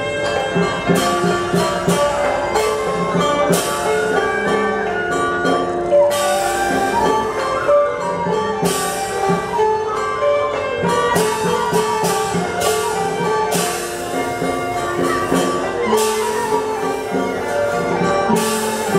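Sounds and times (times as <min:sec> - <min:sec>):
gliding ritual melody: 0:00.0 - 0:18.9
percussion strokes: 0:00.0 - 0:18.9
cymbal crashes: 0:00.2 - 0:09.6, 0:10.8 - 0:18.9.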